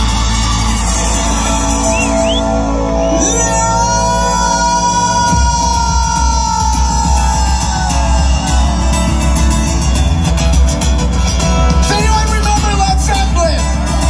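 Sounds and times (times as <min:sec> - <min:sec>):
guitar tone sliding down: 0:00.0 - 0:11.9
live rock band playing: 0:00.0 - 0:14.0.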